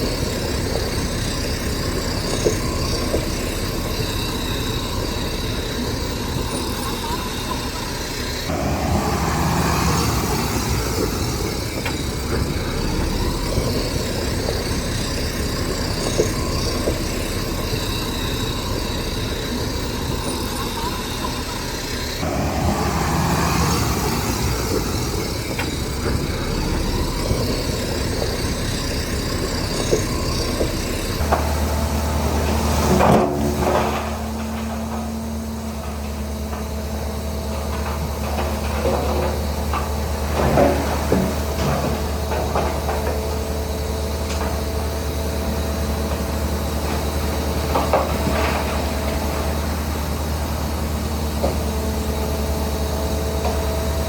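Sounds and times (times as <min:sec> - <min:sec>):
diesel engine running: 0:00.0 - 0:54.0
loud knocks and clanks: 0:00.0 - 0:54.0.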